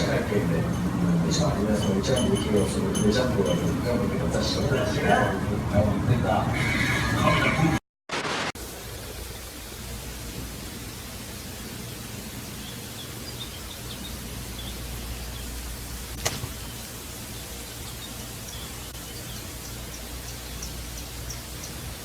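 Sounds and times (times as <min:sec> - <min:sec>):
outdoor ambient hiss: 0:00.0 - 0:06.5, 0:08.1 - 0:22.0.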